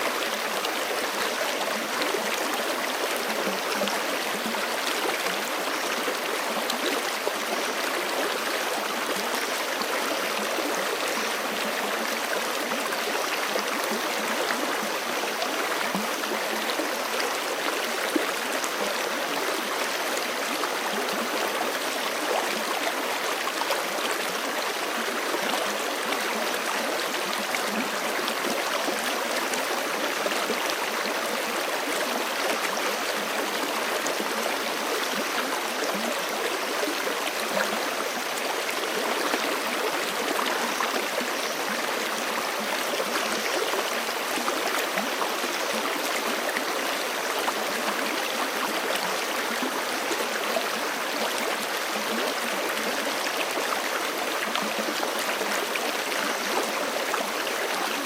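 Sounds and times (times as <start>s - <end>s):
creek running over rocks: 0.0s - 58.0s.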